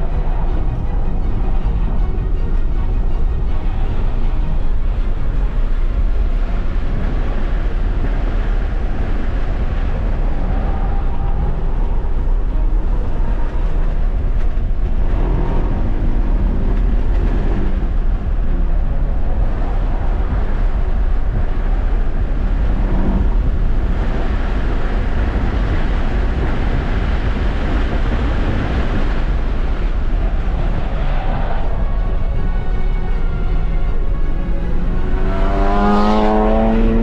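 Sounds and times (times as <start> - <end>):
low road rumble: 0.0 - 37.0
wind noise: 0.0 - 37.0.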